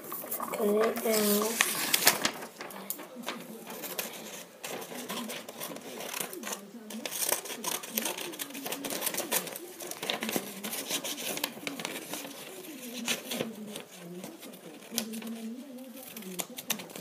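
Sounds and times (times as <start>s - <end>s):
scissors snipping paper: 0.6s - 17.0s.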